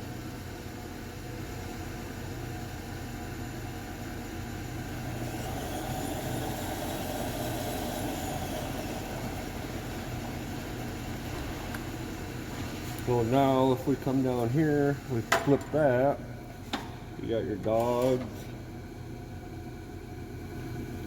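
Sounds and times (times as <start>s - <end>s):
grinder machine humming: 0.0s - 21.0s.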